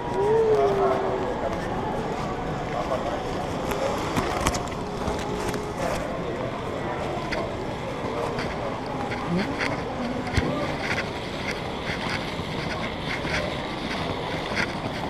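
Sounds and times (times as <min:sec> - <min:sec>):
faint distant voices: 0:00.0 - 0:15.0
steady background noise: 0:00.0 - 0:15.0.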